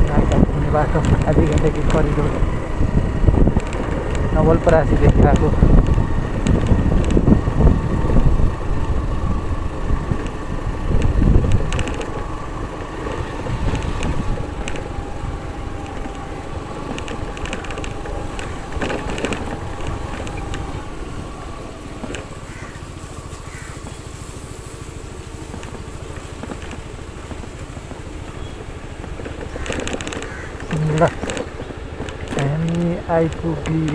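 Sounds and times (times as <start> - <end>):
motorcycle engine running: 0.0 - 33.9
tyres rumbling on gravel: 0.0 - 33.9.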